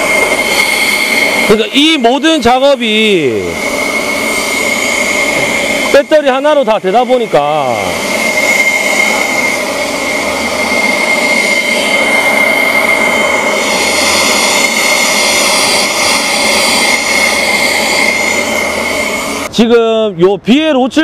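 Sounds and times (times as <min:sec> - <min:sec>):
leaf blower air rush: 0:00.0 - 0:19.6
high fan whine: 0:00.0 - 0:21.0.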